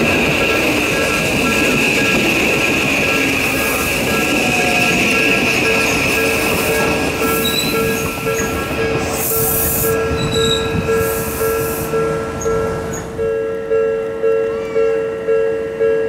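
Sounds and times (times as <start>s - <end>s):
train wheels rumbling on rail: 0.0s - 15.9s.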